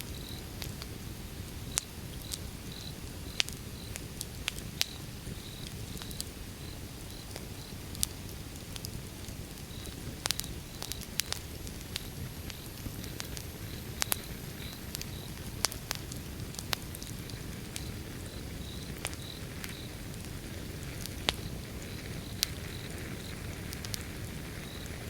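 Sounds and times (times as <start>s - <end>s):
fire flames rumbling: 0.0s - 25.0s
logs crackling and popping: 0.1s - 25.0s.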